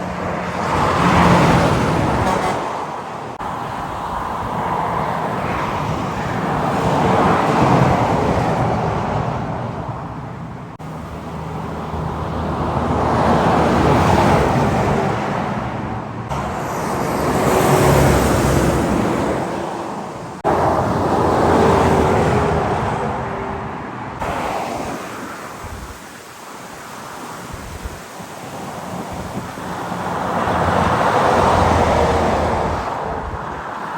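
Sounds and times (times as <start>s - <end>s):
heavy trucks passing on highway: 0.0s - 33.9s.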